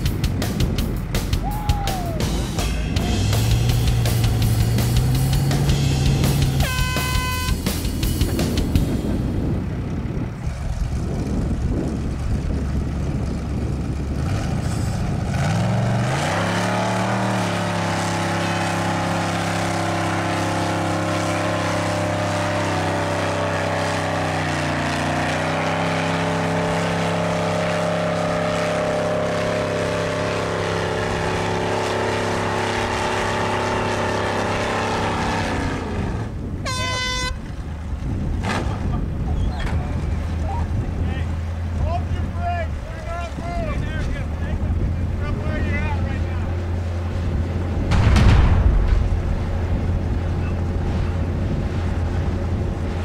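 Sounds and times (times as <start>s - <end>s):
buggy engine revving: 0.0s - 53.0s.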